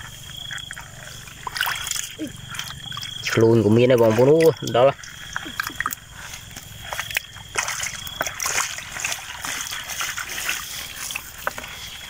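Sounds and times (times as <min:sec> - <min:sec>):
muddy water trickling: 0:00.0 - 0:12.0.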